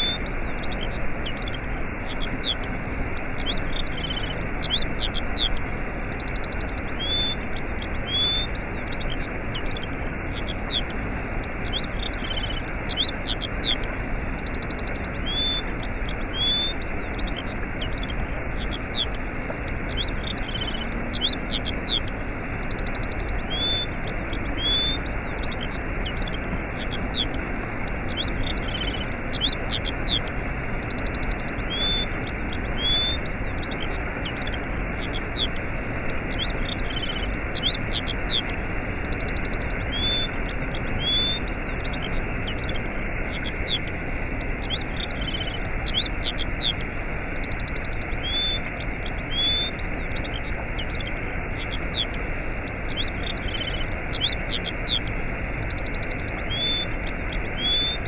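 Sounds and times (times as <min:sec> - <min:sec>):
birds chirping and trilling: 0:00.0 - 0:58.0
waterfall rushing: 0:00.0 - 0:58.0.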